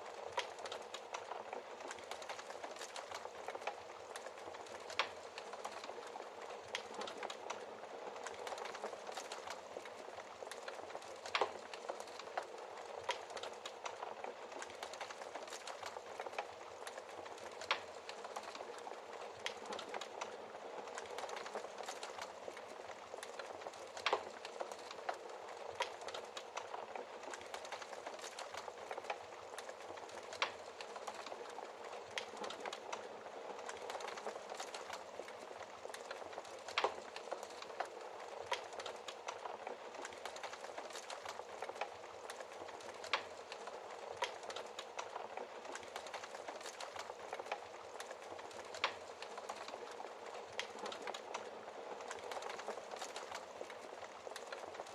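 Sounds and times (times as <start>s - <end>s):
fire popping: 0.0s - 54.9s
fireplace fire crackling: 0.0s - 54.9s.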